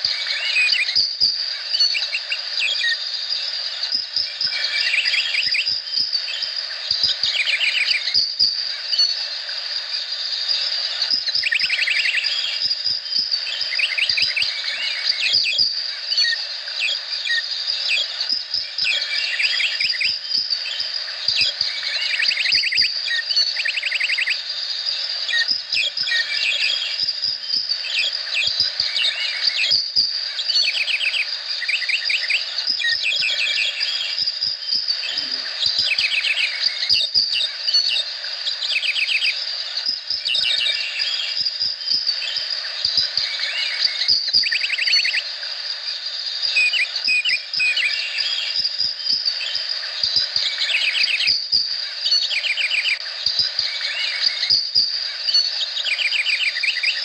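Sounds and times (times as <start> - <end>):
chirping trills: 0.0 - 57.0
high insect drone: 0.0 - 57.0.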